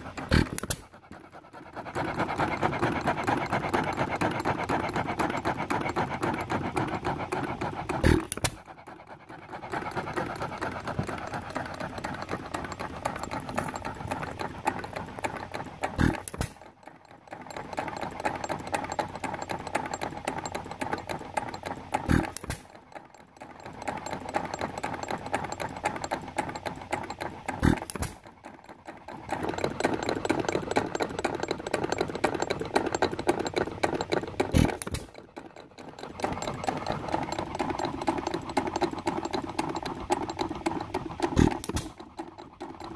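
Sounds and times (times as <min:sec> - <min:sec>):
mechanical clatter of flywheels: 0:00.0 - 0:42.9.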